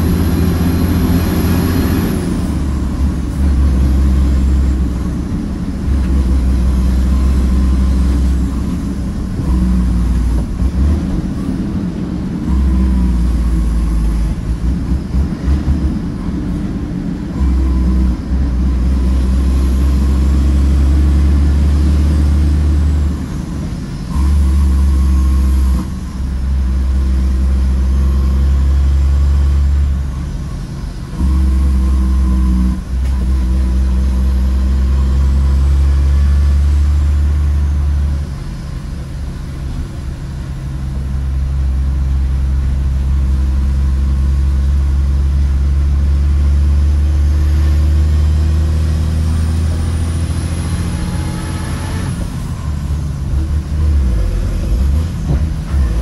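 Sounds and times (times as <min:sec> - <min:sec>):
truck diesel engine under load: 0:00.0 - 0:56.0.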